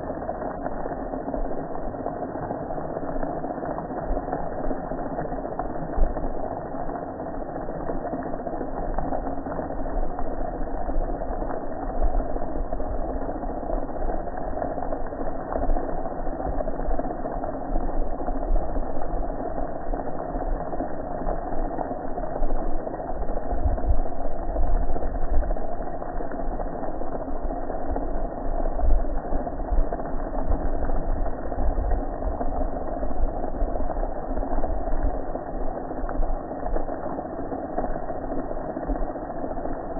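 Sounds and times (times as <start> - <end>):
water spraying on metal grill: 0.0 - 39.9.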